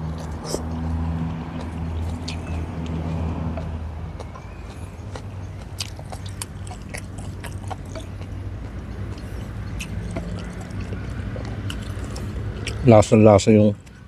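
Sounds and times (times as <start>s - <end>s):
chewing with wet mouth clicks: 0.0s - 14.0s.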